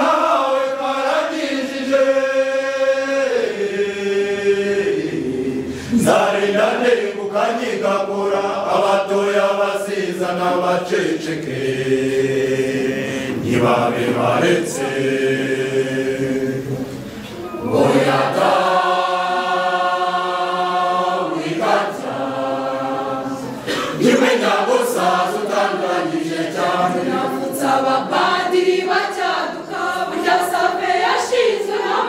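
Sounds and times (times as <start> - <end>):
mixed choir singing: 0.0 - 32.0.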